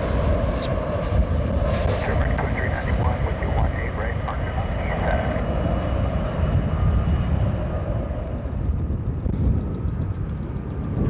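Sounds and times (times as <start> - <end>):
faint jet engine whine: 0.0 - 11.0
jet engine rumble: 0.0 - 11.0.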